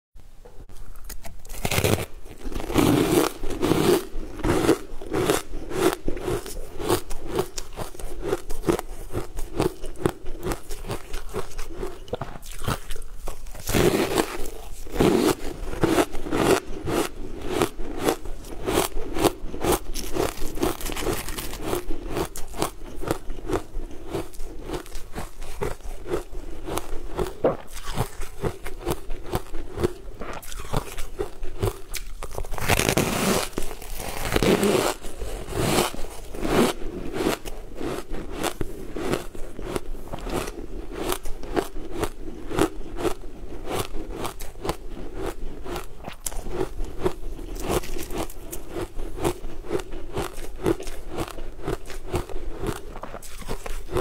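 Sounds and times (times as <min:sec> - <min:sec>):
crunching and chewing ice: 0:00.8 - 0:54.0.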